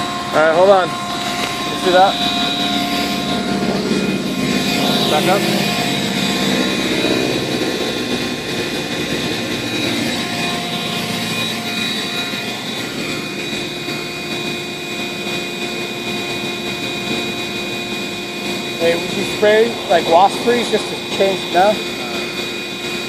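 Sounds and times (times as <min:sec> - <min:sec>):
vacuum droning: 0:00.0 - 0:23.0
bees buzzing: 0:00.9 - 0:23.0.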